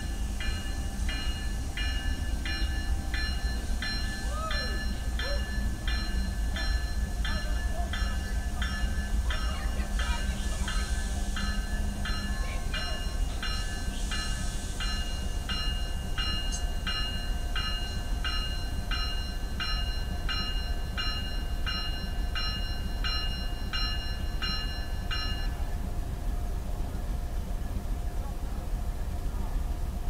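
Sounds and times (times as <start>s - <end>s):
railroad warning bell dinging: 0.0s - 29.5s
train low rumble: 0.0s - 30.0s.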